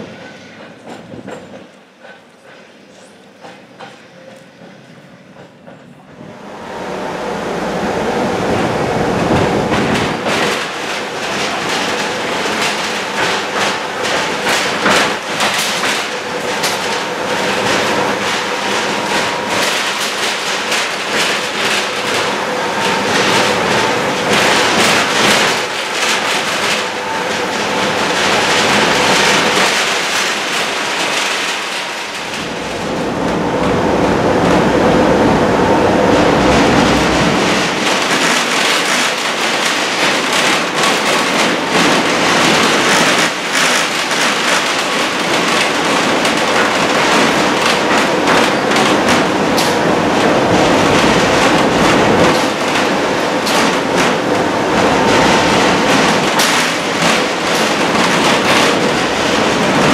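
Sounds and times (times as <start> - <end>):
tram running noise with whine: 0.0 - 59.9
wheels clattering over track: 9.1 - 33.8, 36.0 - 59.9.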